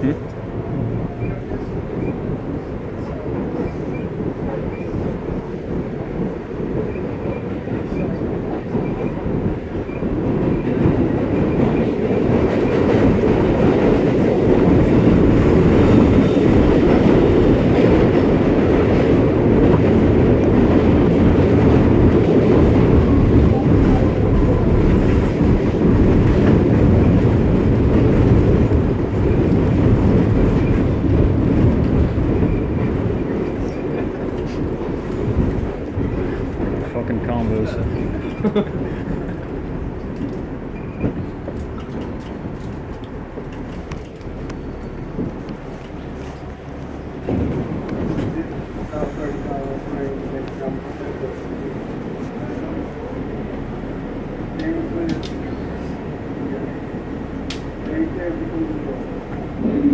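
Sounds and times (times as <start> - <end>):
subway train rumbling: 0.0 - 59.9.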